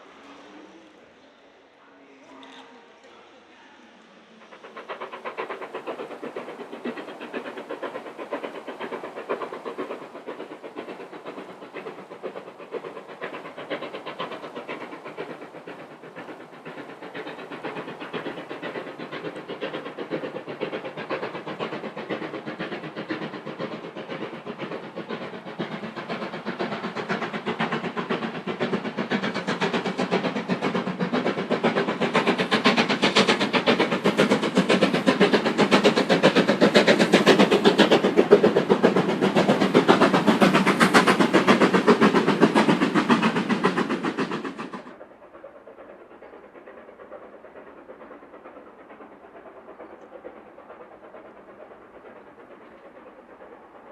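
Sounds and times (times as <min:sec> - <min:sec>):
steam locomotive passing at speed: 0:00.0 - 0:53.9.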